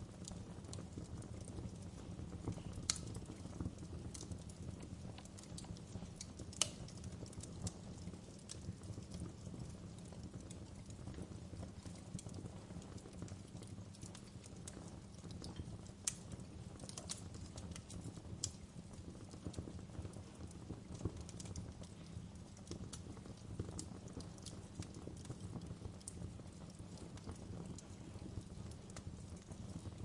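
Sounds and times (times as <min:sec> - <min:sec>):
campfire crackling and snapping: 0:00.0 - 0:30.0.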